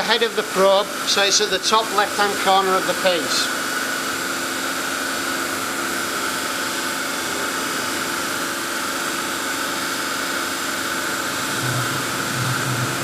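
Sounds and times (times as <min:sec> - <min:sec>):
stone cutting machine whirring: 0:00.0 - 0:13.0.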